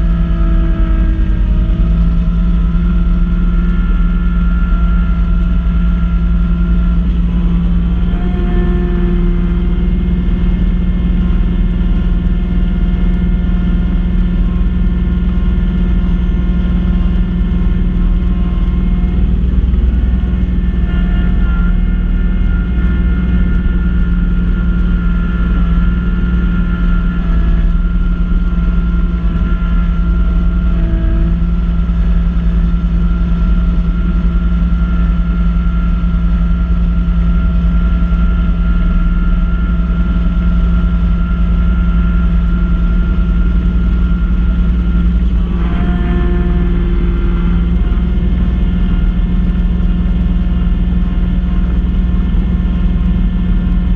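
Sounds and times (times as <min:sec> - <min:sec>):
snow blower whine: 0:00.0 - 0:53.9
tractor diesel engine running: 0:00.0 - 0:53.9.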